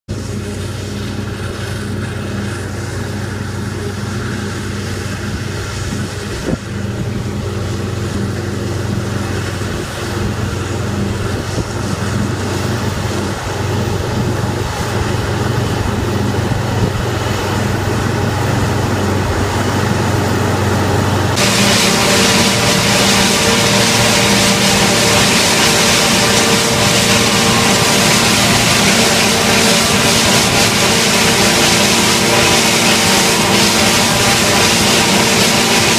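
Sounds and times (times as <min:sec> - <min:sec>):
tractor engine drone: 0:00.0 - 0:35.9
harvester cutting stalks: 0:00.1 - 0:35.9.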